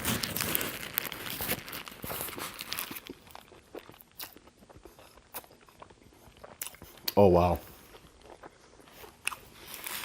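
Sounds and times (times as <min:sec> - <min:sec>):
burger being bitten and chewed: 0:00.0 - 0:10.0.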